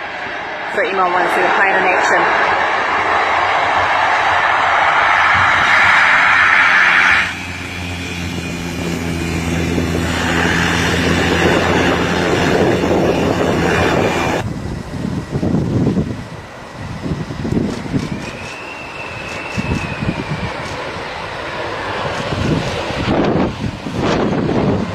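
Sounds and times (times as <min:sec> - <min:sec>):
gusty wind noise: 0:00.0 - 0:24.9
light aircraft engine humming: 0:00.0 - 0:24.9.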